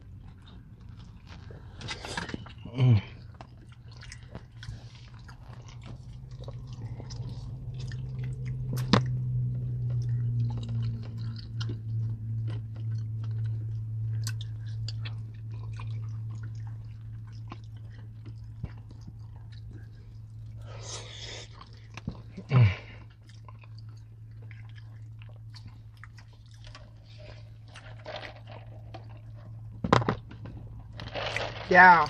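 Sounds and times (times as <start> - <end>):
people chewing and biting: 0.0 - 32.0
steady low hum: 0.0 - 32.0.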